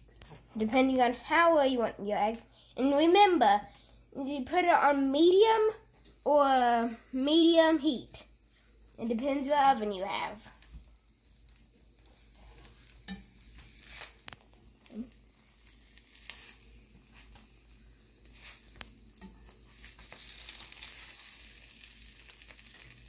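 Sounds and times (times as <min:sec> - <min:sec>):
crackles and pops of frying: 0:00.0 - 0:23.0
eggs sizzling in a frying pan: 0:00.0 - 0:23.0.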